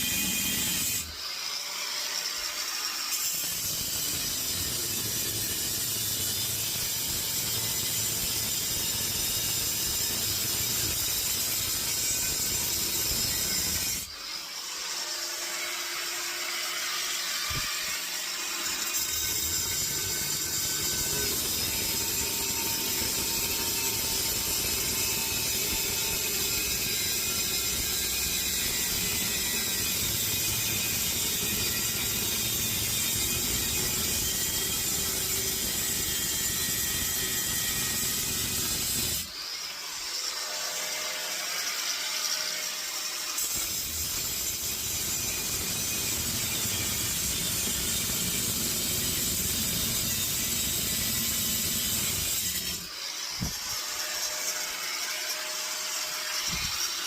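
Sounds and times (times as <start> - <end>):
saw cutting steel: 0.0 - 57.0.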